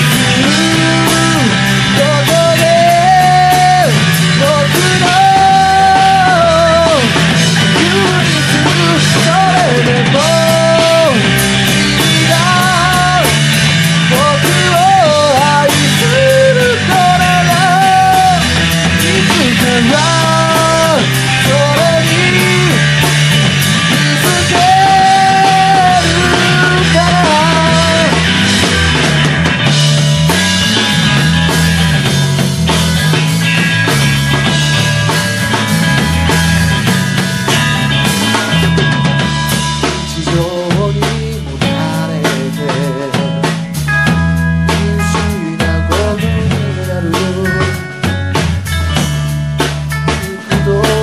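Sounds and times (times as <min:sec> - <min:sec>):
rock band playing: 0:00.0 - 0:51.0
sung lead melody: 0:00.0 - 0:51.0.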